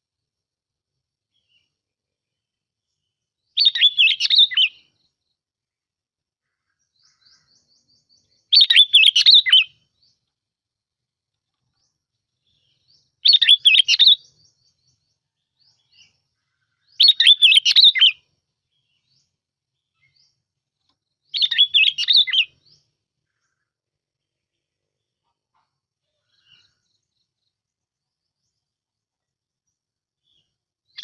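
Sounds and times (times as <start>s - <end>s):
bird warbling song: 1.3s - 5.3s, 6.4s - 10.4s, 11.4s - 28.8s, 29.6s - 31.0s.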